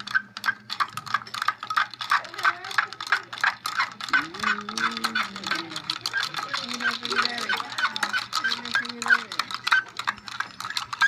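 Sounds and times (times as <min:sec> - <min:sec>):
coins clinking in glass beaker: 0:00.0 - 0:11.0.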